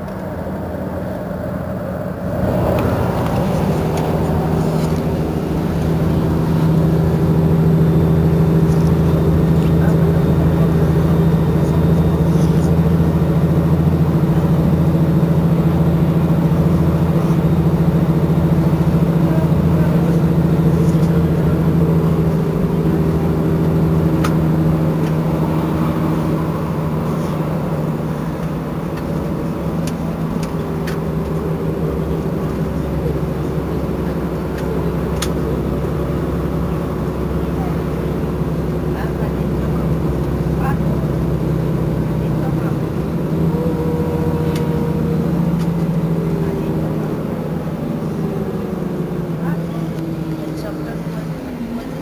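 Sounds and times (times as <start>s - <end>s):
bus engine idling: 0.0s - 52.0s.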